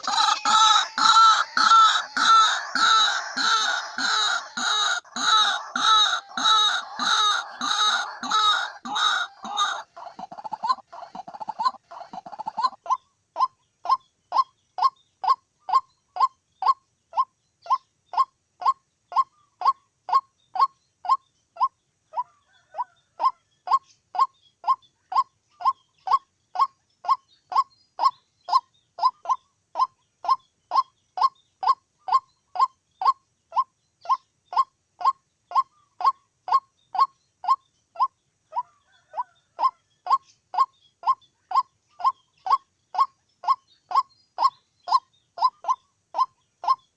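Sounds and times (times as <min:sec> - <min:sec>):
waterhen calling: 0:00.0 - 0:46.9.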